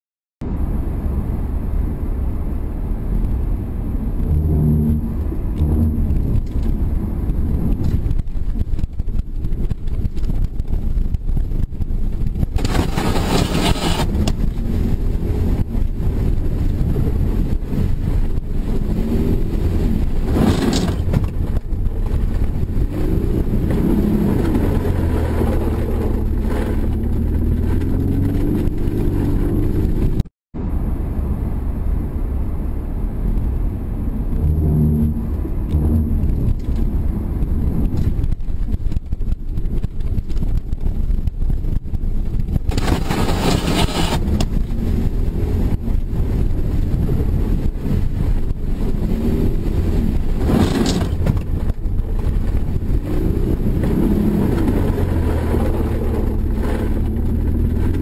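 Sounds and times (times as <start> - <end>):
car engine and tyres rumbling: 0.4 - 58.0.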